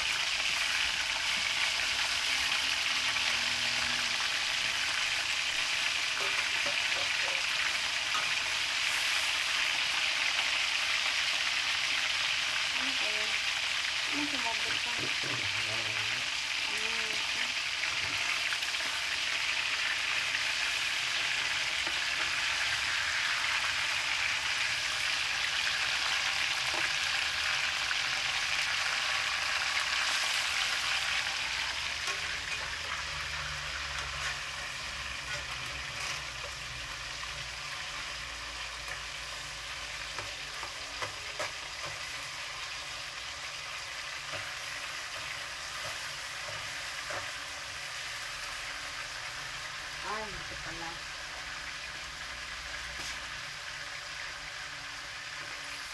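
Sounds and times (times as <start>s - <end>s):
chicken sizzling in hot oil: 0.0s - 55.9s.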